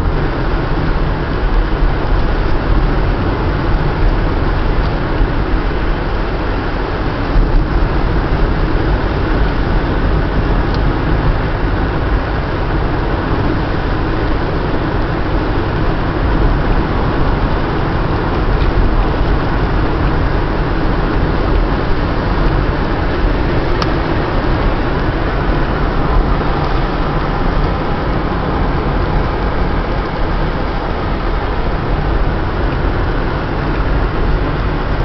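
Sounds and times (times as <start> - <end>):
car cabin road and engine rumble: 0.0 - 35.0.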